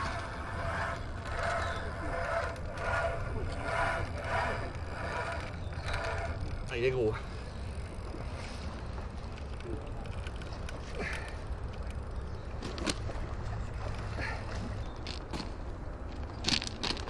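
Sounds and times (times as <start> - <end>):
faint clicks and knocks: 0.0 - 15.5.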